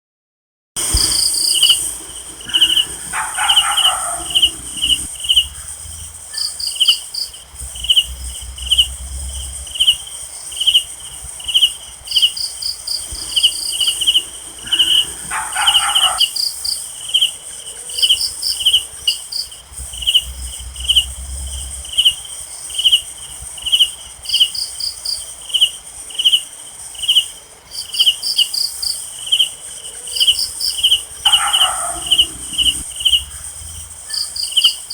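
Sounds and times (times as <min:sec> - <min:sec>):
crickets chirping: 0:00.8 - 0:34.9
high-pitched insect trill: 0:00.8 - 0:34.9.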